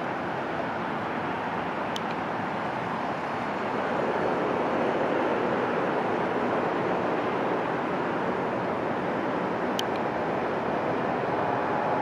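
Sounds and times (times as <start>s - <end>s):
distant jet engines at takeoff: 0.0s - 12.0s.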